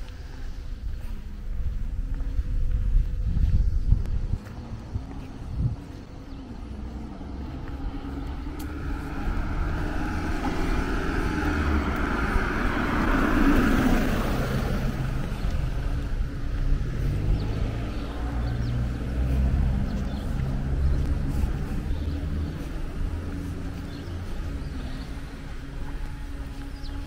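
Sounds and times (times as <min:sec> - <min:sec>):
steady low rumble: 0:00.0 - 0:27.0
car passing by: 0:04.4 - 0:27.0.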